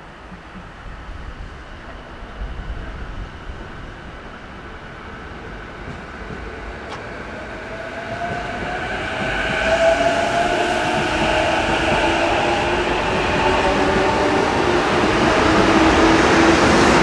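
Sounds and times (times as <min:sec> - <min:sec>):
electric locomotive hauling freight train: 0:00.1 - 0:17.0.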